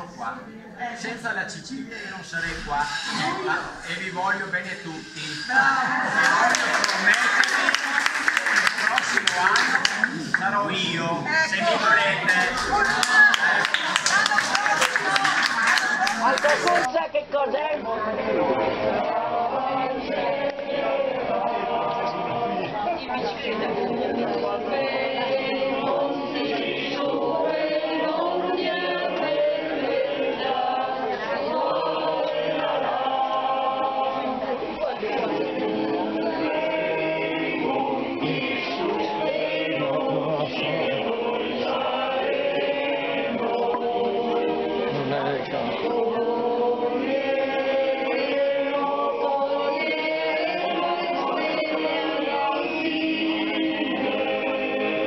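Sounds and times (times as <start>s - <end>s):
group singing without instruments: 1.8s - 16.9s, 17.8s - 55.0s.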